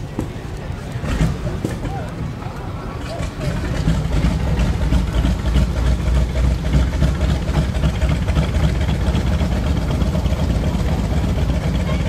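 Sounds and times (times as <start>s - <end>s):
steam engine low rumble: 0.0s - 12.0s.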